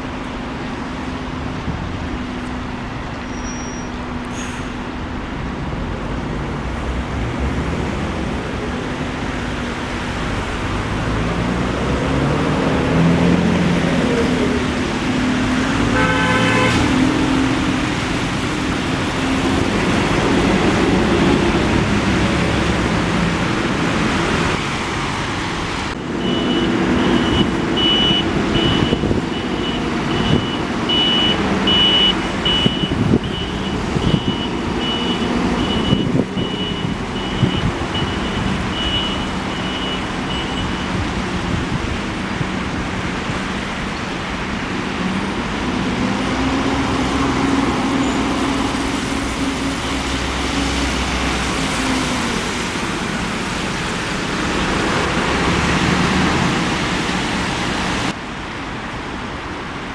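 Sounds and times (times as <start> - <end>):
street traffic engines: 0.0 - 59.9.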